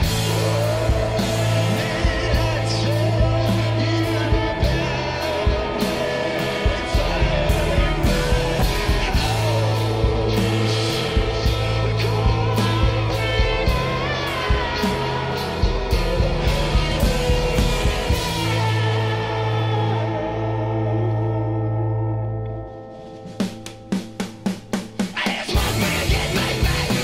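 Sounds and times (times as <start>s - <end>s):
drum kit with cymbal hits: 0.0s - 20.2s, 22.9s - 27.0s
person singing: 0.0s - 22.6s, 25.0s - 27.0s
psychedelic rock band: 0.0s - 27.0s.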